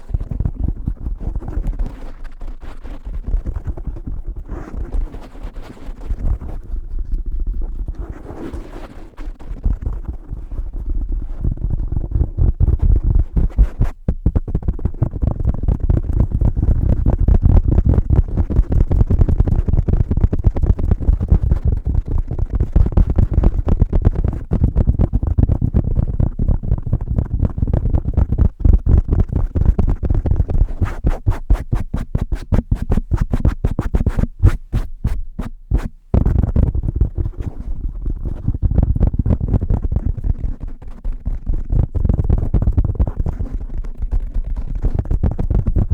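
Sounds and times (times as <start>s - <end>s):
fingertips tapping microphone cover: 0.0s - 8.6s, 9.4s - 45.9s.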